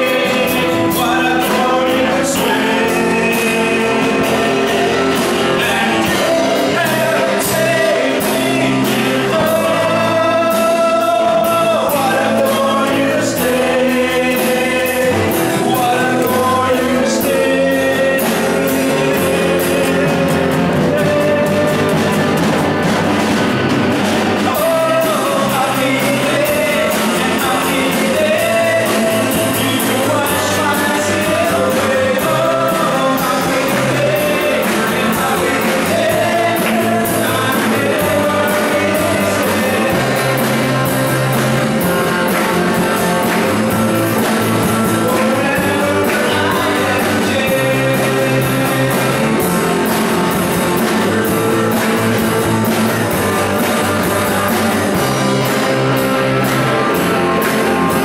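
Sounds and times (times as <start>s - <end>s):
group of people singing: 0.0s - 58.0s
guitars: 0.0s - 58.0s.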